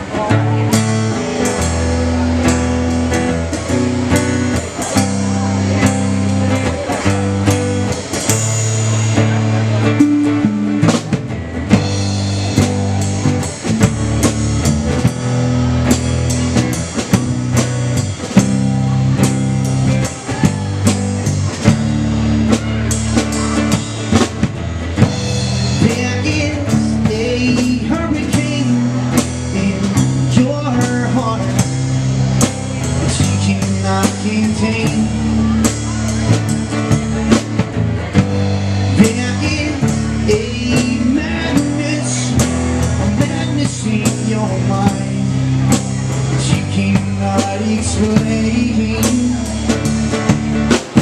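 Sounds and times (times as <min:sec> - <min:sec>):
drum kit beat: 0:00.0 - 0:51.0
guitar chords: 0:00.0 - 0:51.0.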